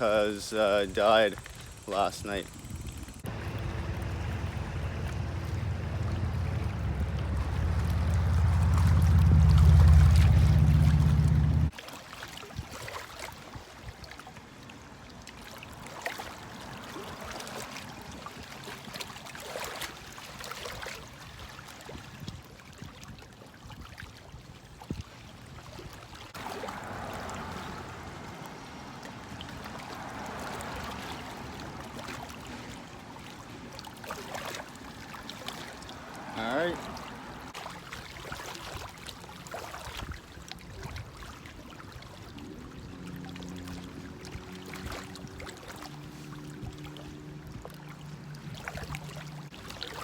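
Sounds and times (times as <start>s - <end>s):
water lapping and trickling: 0.0s - 50.0s.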